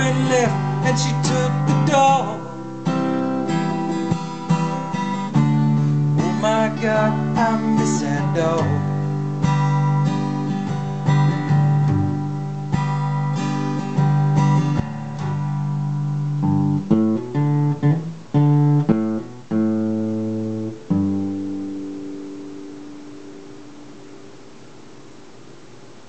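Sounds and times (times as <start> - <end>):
acoustic guitar playing: 0.0 - 25.8.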